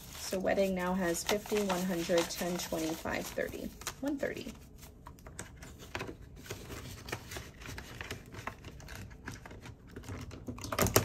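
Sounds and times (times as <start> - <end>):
banknotes rustling: 0.0 - 10.2.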